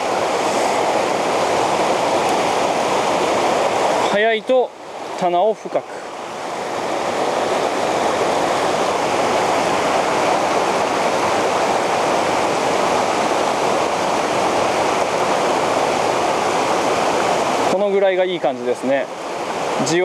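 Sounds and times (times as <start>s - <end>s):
river current rushing: 0.0s - 20.0s.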